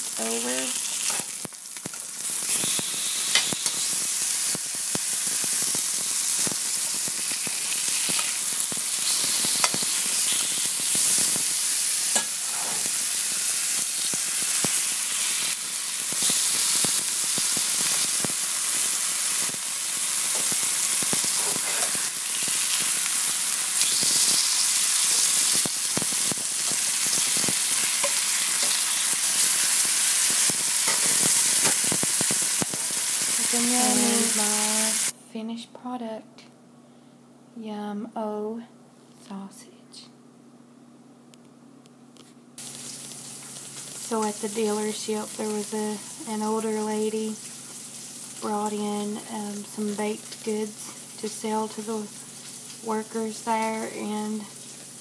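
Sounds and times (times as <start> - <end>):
sausages sizzling in a frying pan: 0.0 - 35.1, 42.6 - 55.0.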